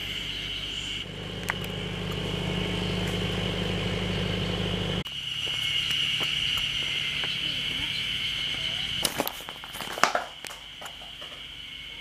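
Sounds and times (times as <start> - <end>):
engine idling: 0.0 - 9.6
high insect drone: 0.0 - 12.0.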